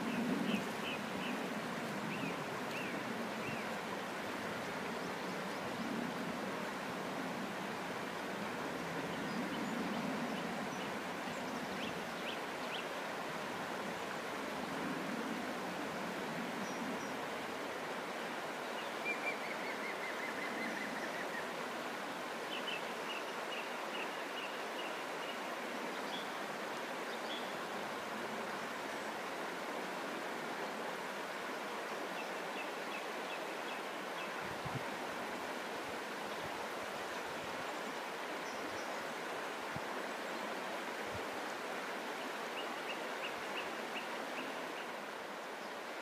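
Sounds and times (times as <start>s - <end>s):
river flowing over stones: 0.0s - 46.0s.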